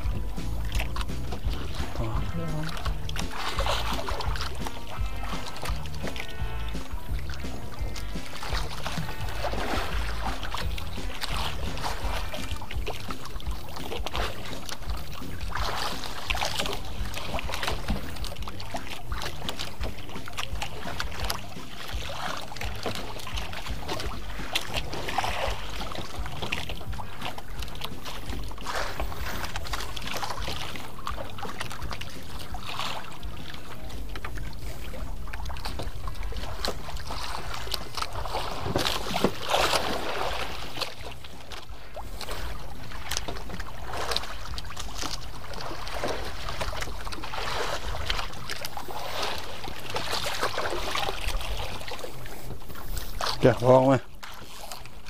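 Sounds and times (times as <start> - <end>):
water sloshing: 0.0 - 55.0.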